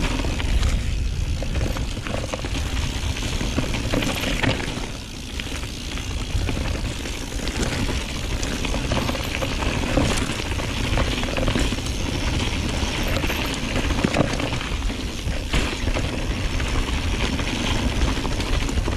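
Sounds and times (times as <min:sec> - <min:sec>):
bike clicks and rattles: 0:00.0 - 0:18.9
bike tyres rolling on dirt and stones: 0:00.0 - 0:18.9.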